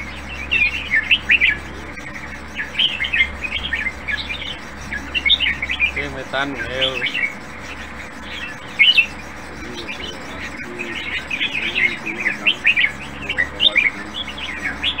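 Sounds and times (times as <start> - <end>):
bird chirping song: 0.0 - 15.0.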